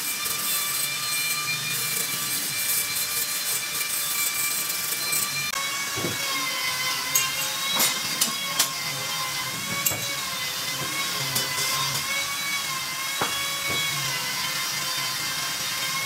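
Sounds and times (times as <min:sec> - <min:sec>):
angle grinder whining: 0:00.0 - 0:16.0.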